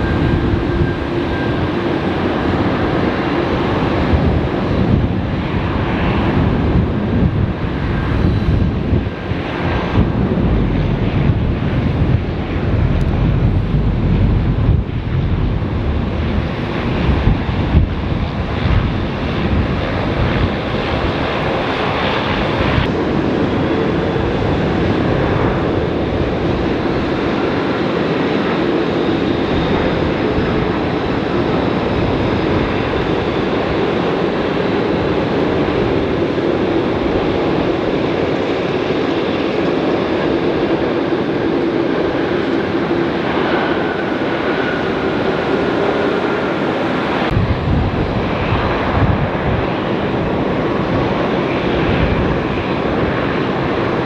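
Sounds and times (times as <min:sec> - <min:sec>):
high jet whine: 0:00.0 - 0:54.0
jet engine roar: 0:00.0 - 0:54.0
wind buffeting microphone: 0:00.0 - 0:54.0.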